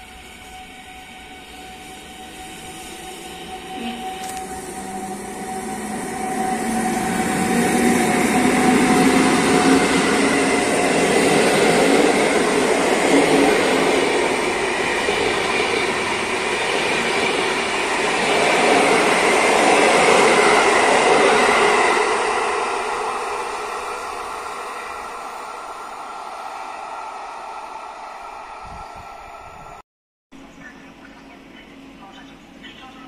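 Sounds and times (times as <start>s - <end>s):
train wheels rushing on rail: 0.0s - 29.8s.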